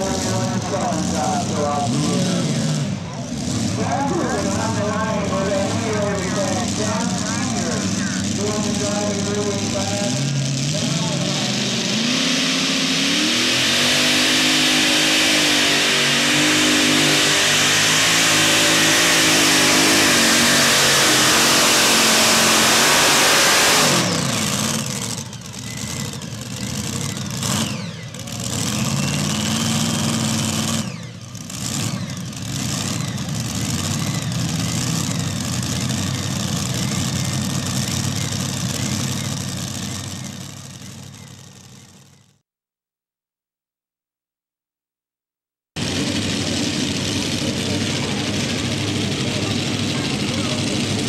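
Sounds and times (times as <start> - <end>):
engines idling with short revs: 0.0 - 42.4, 45.8 - 51.0
tractor engines running under load: 0.0 - 42.4, 45.8 - 51.0.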